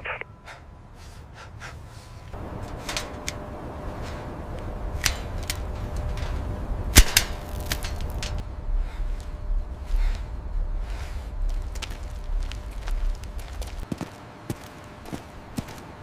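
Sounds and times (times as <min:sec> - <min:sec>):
faint steady hum: 0:00.0 - 0:16.0
low rumbling ambience: 0:00.0 - 0:16.0.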